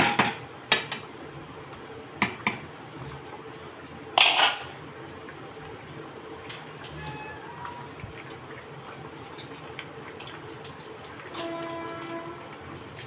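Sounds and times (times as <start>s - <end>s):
soup bubbling: 0.4s - 13.0s.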